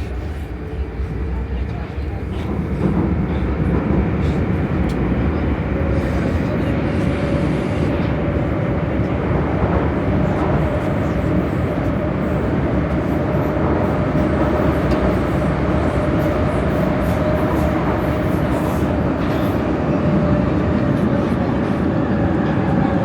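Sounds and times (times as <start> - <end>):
train wheels rumbling: 0.0 - 23.0
train whine: 0.0 - 23.0.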